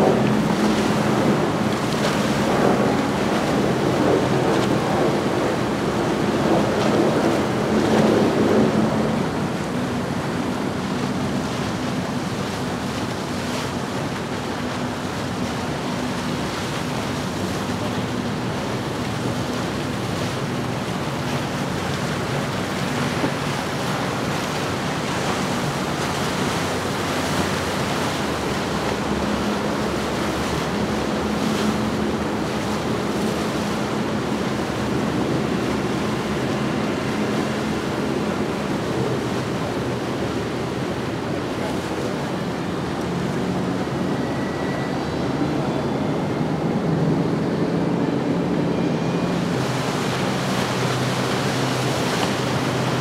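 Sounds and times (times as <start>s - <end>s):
boat wakes rushing: 0.0s - 53.0s
outboard motors running: 0.0s - 53.0s
wind on microphone: 0.0s - 53.0s.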